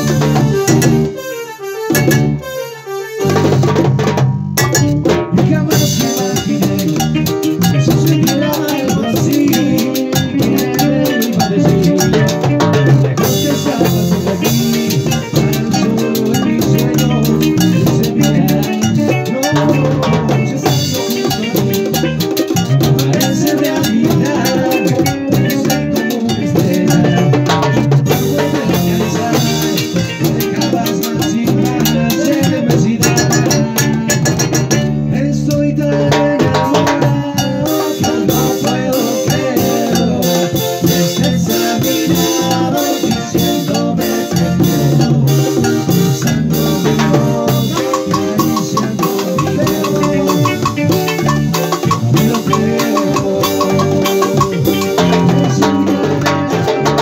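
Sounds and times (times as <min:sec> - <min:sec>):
accordion melody: 0:00.0 - 0:57.0
hand drums beating: 0:03.3 - 0:57.0.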